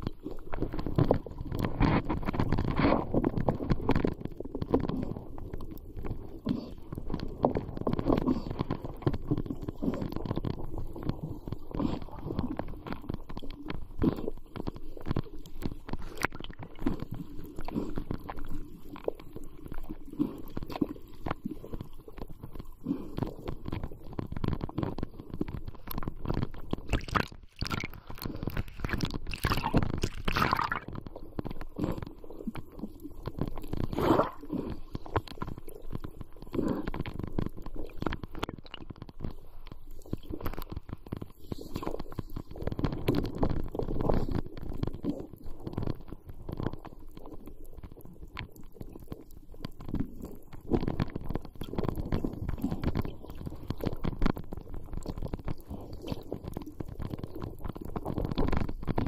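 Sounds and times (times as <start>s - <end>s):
crackling of moving water: 0.0s - 59.0s
muffled underwater rumbling: 0.0s - 59.0s.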